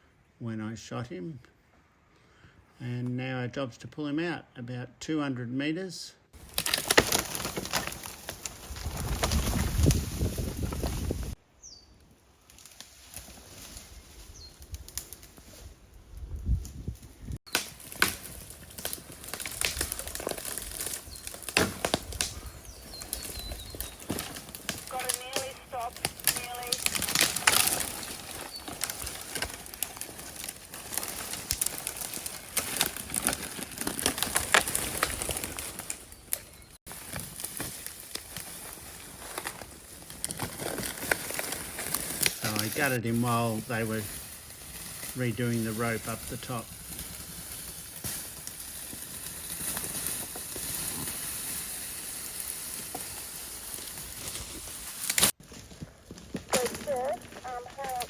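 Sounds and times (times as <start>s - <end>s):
undergrowth crackling and snapping: 6.4s - 11.4s, 12.4s - 58.0s.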